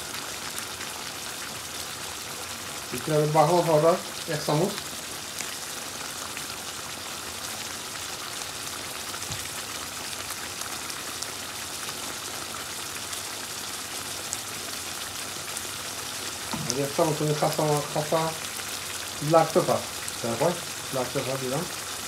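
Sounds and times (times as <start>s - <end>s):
curry sizzling in a pan: 0.0s - 22.0s.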